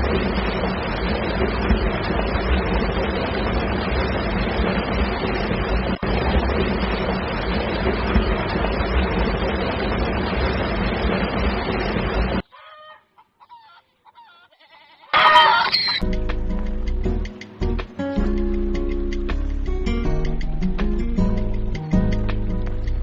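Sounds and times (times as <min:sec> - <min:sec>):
loud engine-like rumble: 0:00.0 - 0:12.4, 0:16.0 - 0:23.0.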